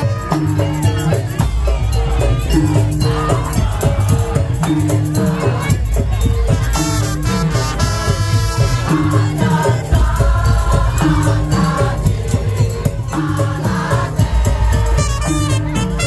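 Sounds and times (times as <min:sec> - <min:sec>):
heavy drums: 0:00.0 - 0:16.0.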